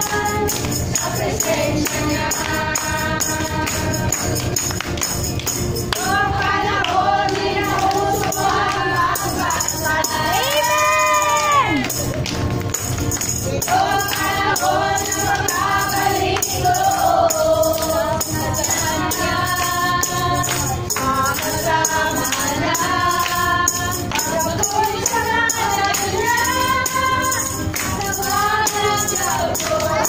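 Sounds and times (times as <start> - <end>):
group singing praise song: 0.0 - 5.0, 5.8 - 12.2, 13.2 - 30.0
tambourine shaking: 0.0 - 30.0.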